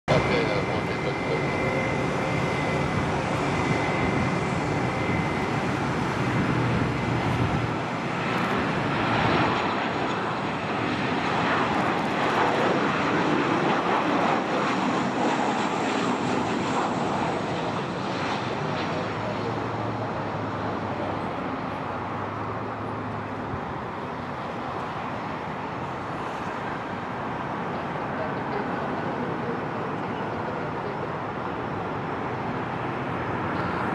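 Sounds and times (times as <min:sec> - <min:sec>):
jet engine roar: 0:00.1 - 0:33.9.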